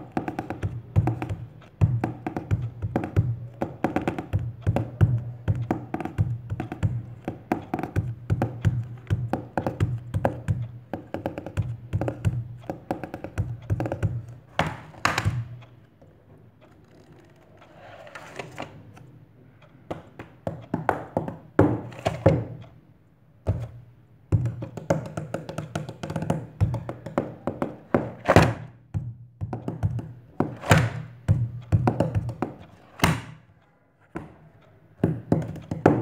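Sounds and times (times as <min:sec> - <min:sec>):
fingers tapping on books: 0:00.0 - 0:16.0, 0:19.8 - 0:22.8, 0:23.4 - 0:33.5, 0:34.1 - 0:36.0.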